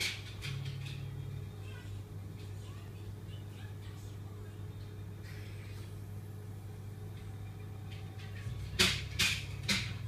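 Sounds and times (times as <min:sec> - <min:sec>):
aquarium pumps humming: 0:00.0 - 0:10.0.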